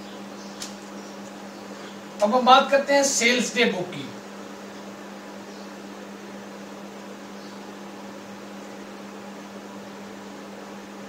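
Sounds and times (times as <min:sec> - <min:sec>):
low electrical hum: 0:00.0 - 0:11.0
room noise hiss: 0:00.0 - 0:11.0.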